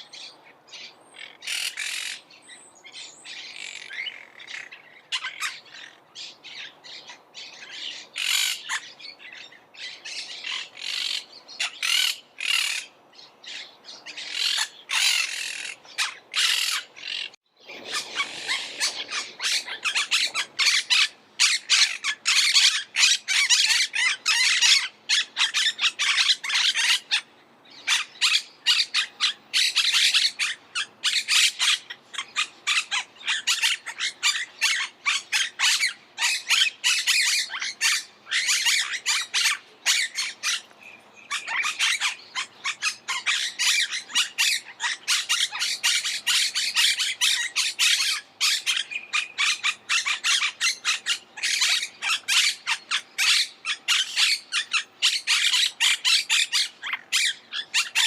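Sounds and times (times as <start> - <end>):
parakeets squawking: 1.2 - 2.2, 3.3 - 58.0.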